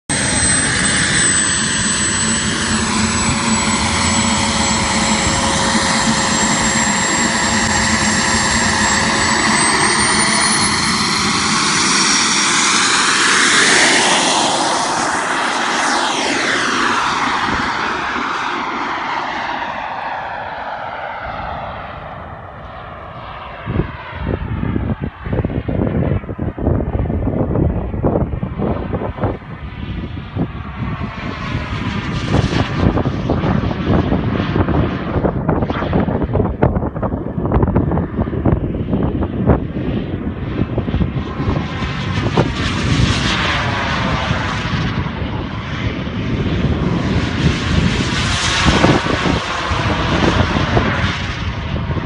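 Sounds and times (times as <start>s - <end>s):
model jet turbine whining: 0.1s - 25.4s, 28.0s - 52.0s
wind buffeting microphone: 0.1s - 52.0s.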